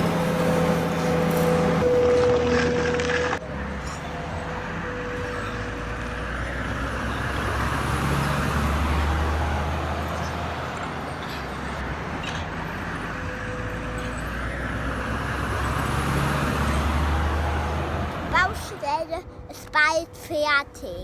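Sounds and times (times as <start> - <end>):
vehicle passing by: 0.0 - 18.5.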